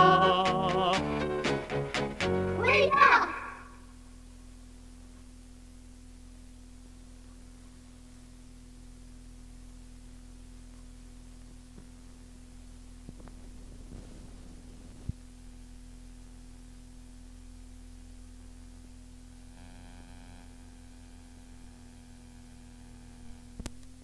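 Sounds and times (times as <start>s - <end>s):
faint tape hiss: 0.0s - 24.0s
low mains hum: 0.0s - 24.0s.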